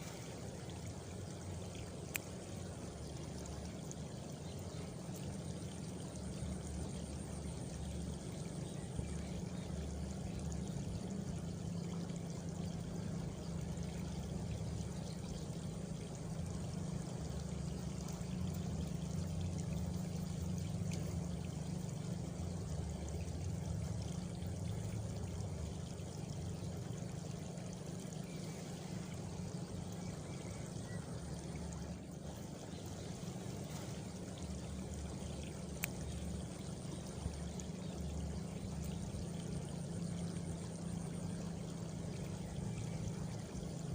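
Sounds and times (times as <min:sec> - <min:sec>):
faint insect chirr: 0:00.0 - 0:43.9
rushing water: 0:00.0 - 0:43.9.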